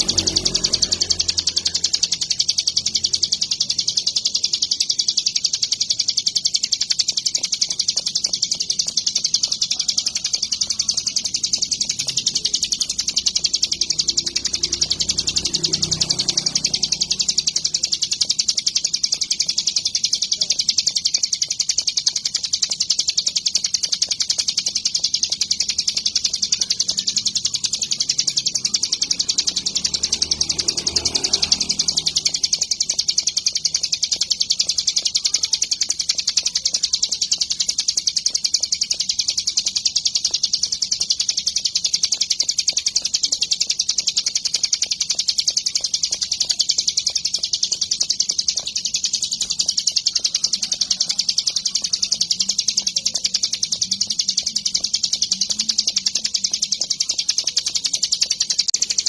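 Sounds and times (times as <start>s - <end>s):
bird chattering trill: 0.0s - 59.0s.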